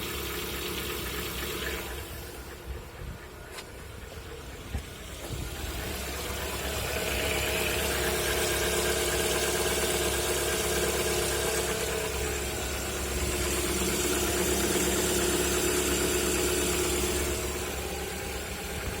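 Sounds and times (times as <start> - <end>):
car engine running: 0.0 - 19.0
engine knocking: 0.0 - 19.0.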